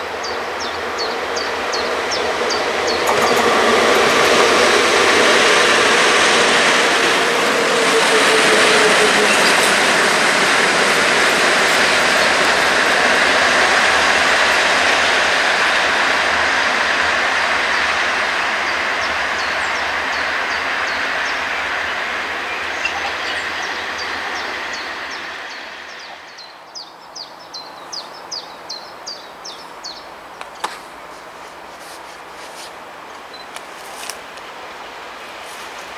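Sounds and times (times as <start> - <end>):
electric locomotive on rails: 0.0 - 35.9.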